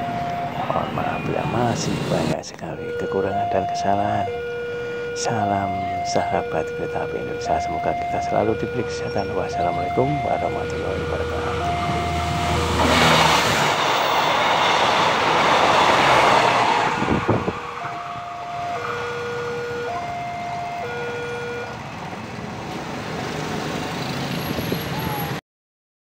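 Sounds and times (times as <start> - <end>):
two-tone crossing warning signal: 0.0 - 22.1
train passing rumble: 0.0 - 25.1.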